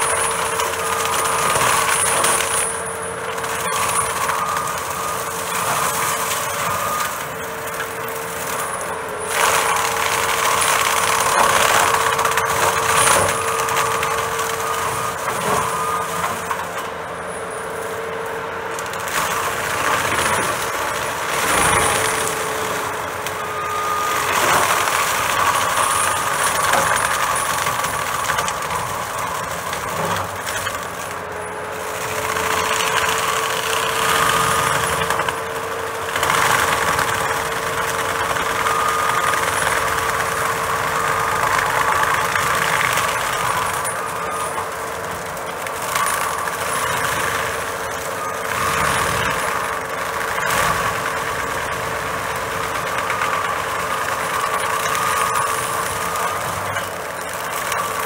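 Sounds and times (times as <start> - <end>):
machine whine: 0.0 - 58.0
mulcher shredding wood: 0.0 - 58.0.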